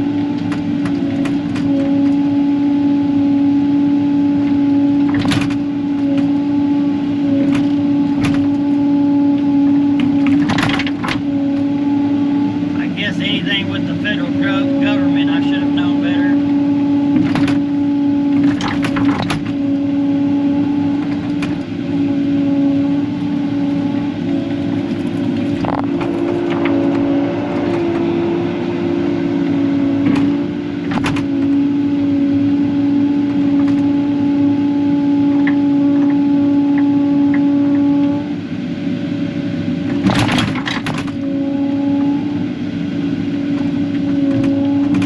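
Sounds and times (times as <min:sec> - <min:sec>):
engine running with even hum: 0:00.0 - 0:45.0.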